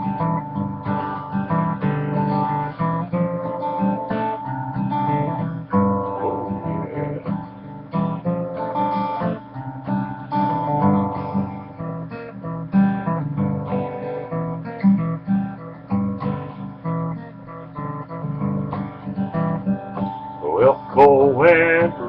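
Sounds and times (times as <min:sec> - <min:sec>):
acoustic guitar picked and strummed: 0:00.0 - 0:22.0.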